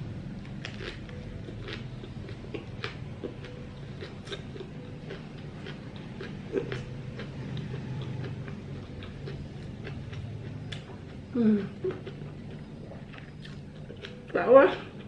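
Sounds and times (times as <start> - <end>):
low steady hum: 0.0 - 15.0
person chewing food: 0.4 - 14.3.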